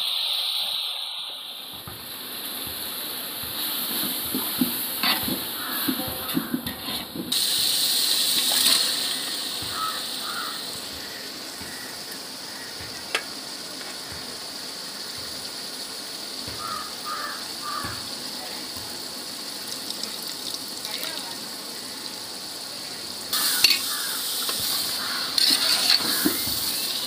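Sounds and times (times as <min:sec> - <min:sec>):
chicken sizzling in a pot: 0:00.0 - 0:27.0.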